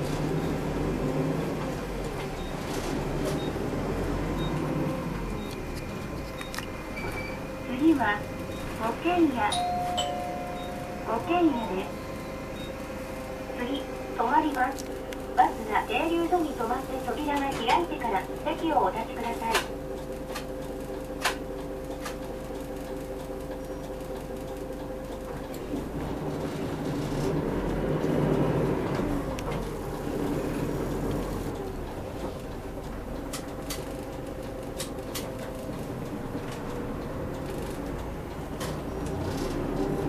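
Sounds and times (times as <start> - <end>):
bus engine running: 0.0 - 40.0.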